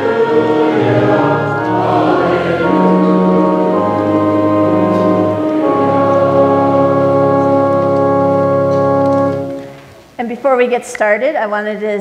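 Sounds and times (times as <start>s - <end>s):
church organ chords: 0.0s - 9.9s.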